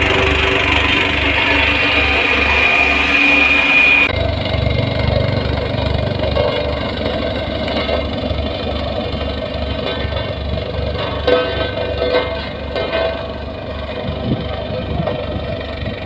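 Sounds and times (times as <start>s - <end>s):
diesel engine throbbing: 0.0s - 16.0s
high steady whine: 0.0s - 16.0s.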